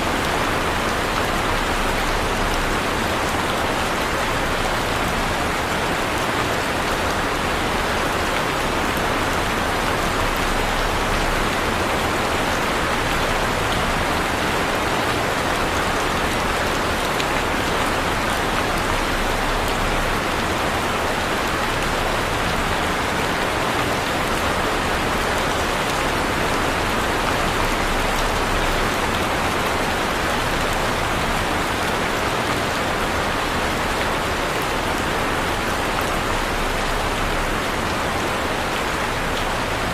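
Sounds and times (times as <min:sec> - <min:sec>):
heavy rain on surfaces: 0:00.0 - 0:39.9.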